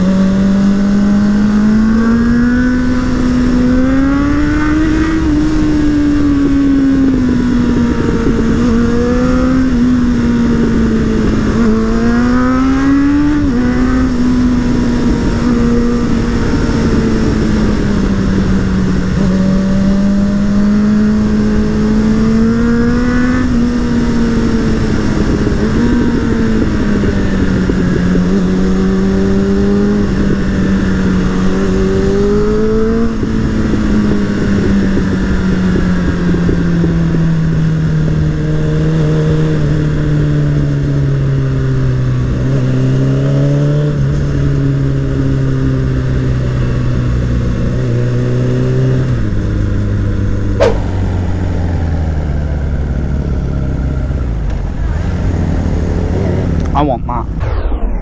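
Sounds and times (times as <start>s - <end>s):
wind noise: 0.0s - 42.7s, 46.2s - 58.0s
motorcycle engine and exhaust: 0.0s - 58.0s.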